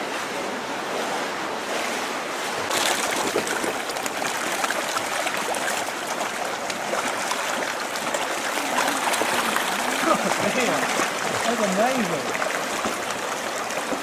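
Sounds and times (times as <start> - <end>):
cave stream rushing and trickling: 0.0 - 14.0.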